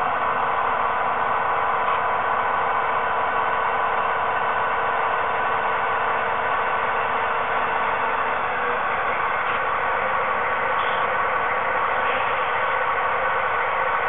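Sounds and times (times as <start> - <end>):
model locomotive diesel engine drone: 0.0 - 14.0.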